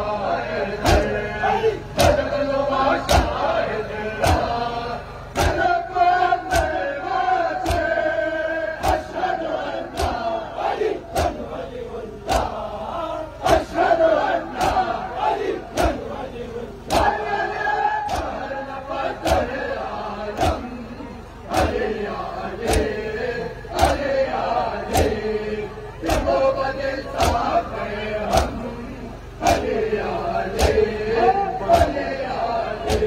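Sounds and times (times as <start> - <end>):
male voices chanting: 0.0 - 33.0
men striking chests in unison: 0.8 - 16.2, 16.8 - 25.4, 26.0 - 33.0.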